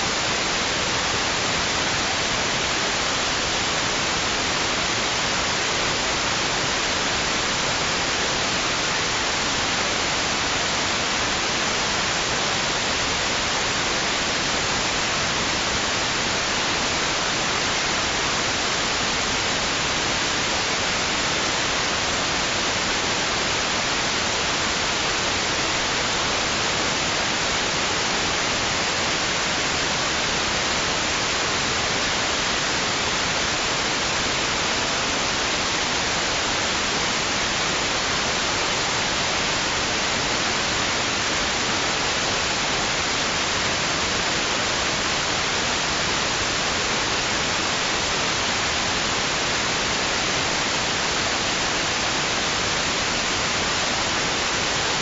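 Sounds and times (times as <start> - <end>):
steady white-noise hiss: 0.0 - 55.0.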